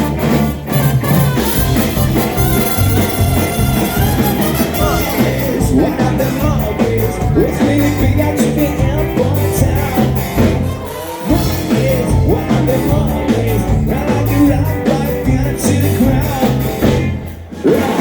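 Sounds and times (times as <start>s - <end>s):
ska-punk band playing live: 0.0s - 18.0s
person singing: 0.8s - 18.0s.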